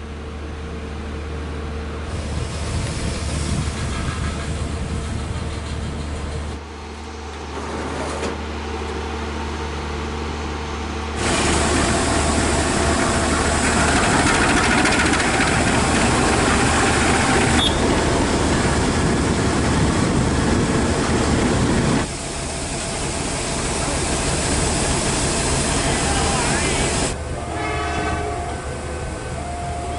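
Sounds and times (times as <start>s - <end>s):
diesel locomotive engine humming: 0.0s - 29.9s
train rushing past: 2.0s - 8.2s, 11.2s - 29.9s.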